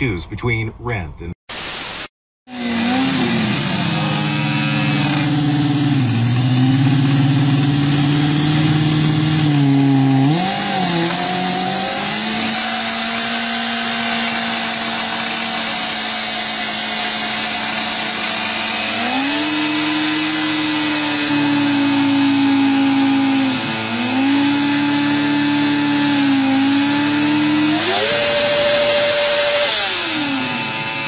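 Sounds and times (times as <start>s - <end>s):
motorcycle engine revving: 2.5s - 31.0s.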